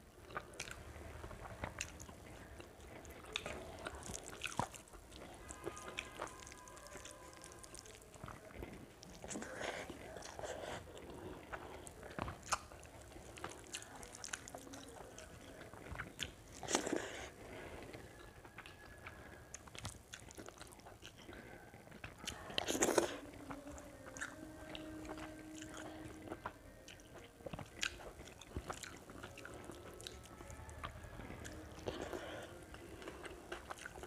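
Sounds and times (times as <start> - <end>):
faint steady hum: 0.0 - 34.0
person chewing: 0.0 - 34.0.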